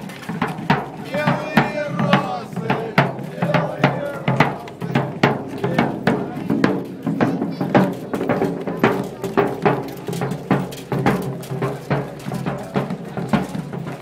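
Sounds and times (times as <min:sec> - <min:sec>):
field drum marching rhythm: 0:00.0 - 0:14.0
voices of marchers: 0:00.0 - 0:14.0.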